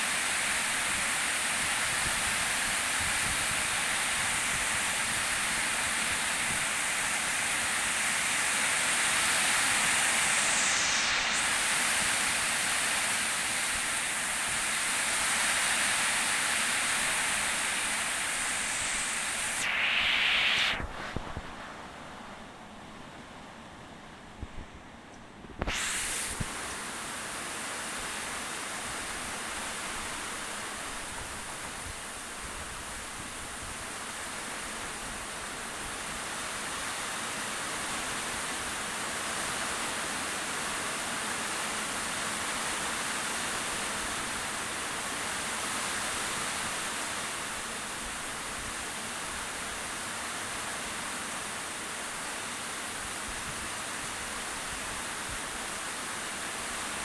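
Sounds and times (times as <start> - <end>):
steady hissing rushing noise: 0.0 - 57.0.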